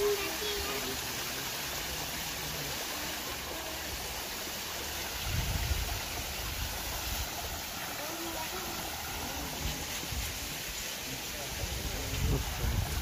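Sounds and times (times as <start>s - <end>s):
water splashing from spouts: 0.0s - 13.0s.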